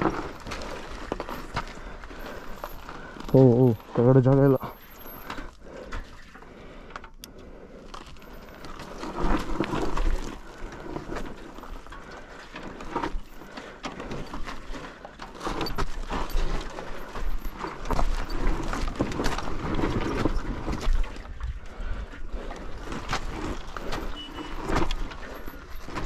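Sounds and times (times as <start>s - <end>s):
tyres crunching over loose stones: 0.0s - 26.0s.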